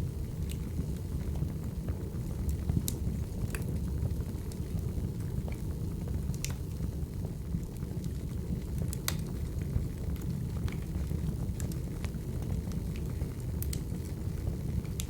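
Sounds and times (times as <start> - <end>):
low rumble of burning logs: 0.0 - 15.0
wood fire pops and crackles: 0.0 - 15.0.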